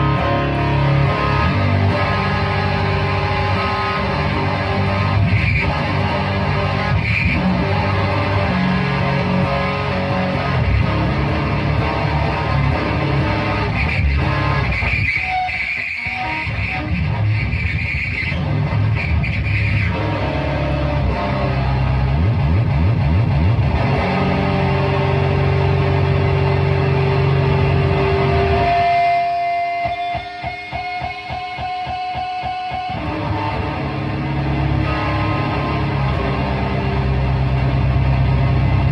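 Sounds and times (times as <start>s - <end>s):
heavy distorted electric guitar: 0.0s - 38.9s.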